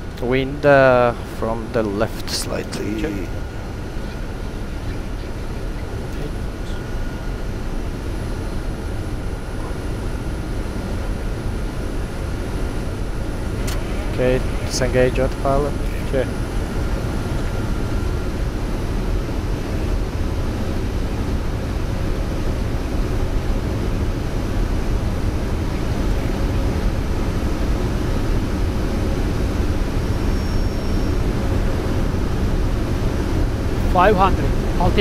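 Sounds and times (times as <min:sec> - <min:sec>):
airflow over airframe: 0:00.0 - 0:35.0
jet engines running: 0:00.0 - 0:35.0.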